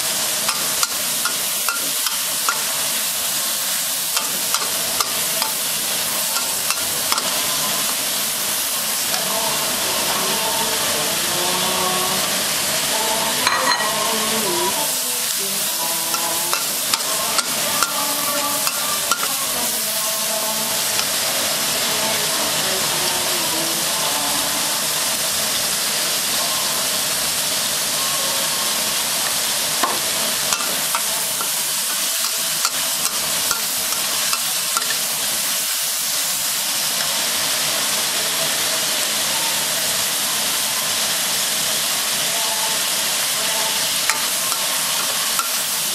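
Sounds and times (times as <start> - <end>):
stir-fry sizzling in a wok: 0.0 - 45.9.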